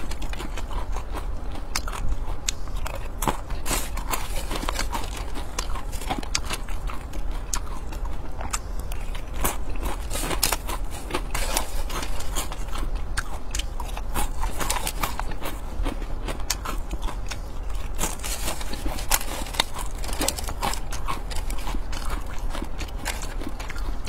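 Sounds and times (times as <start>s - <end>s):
chewing and crunching crisp food: 0.0s - 24.0s
steady low hum: 0.0s - 24.0s.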